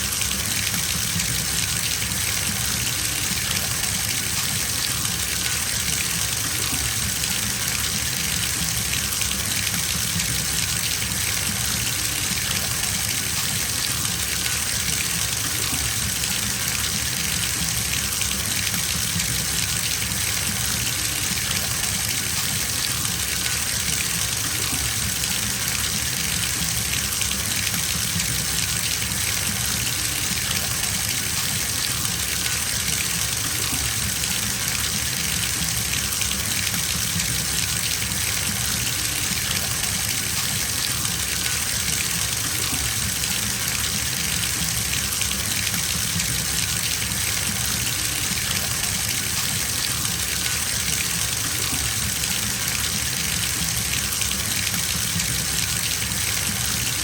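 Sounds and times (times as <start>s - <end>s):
tap water filling bathtub: 0.0s - 57.0s.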